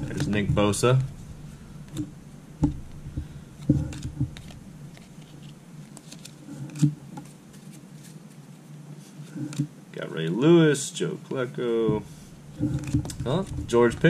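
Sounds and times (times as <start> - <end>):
cards rustling: 0.0 - 2.2, 2.8 - 10.5, 11.3 - 14.0
faint low hum: 0.0 - 14.0.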